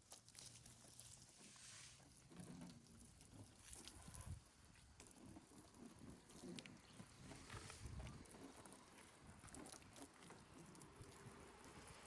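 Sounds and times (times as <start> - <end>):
hose water spattering on car: 0.0 - 12.0.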